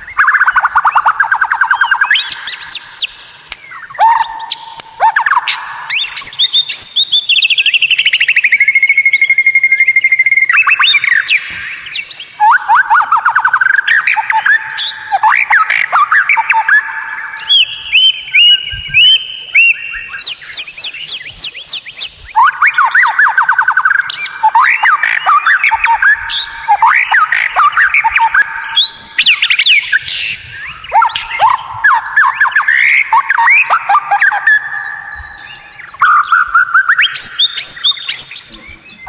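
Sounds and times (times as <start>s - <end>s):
bird singing rapid sweeping notes: 0.0s - 39.0s.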